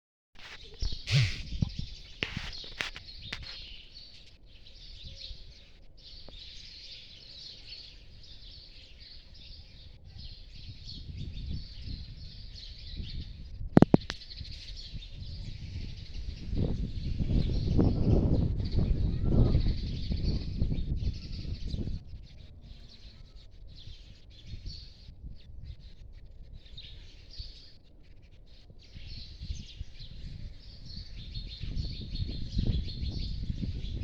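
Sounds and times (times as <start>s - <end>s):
small birds chirping: 0.4s - 34.0s.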